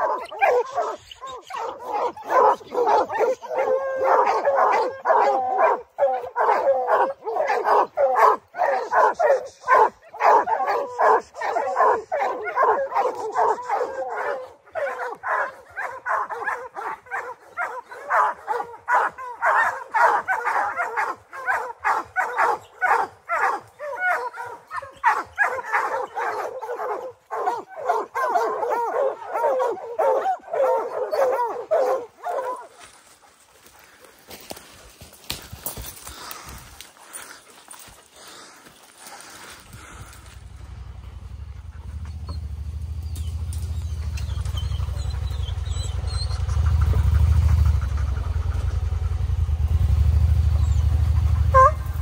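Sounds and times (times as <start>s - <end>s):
hounds barking: 0.0s - 52.0s.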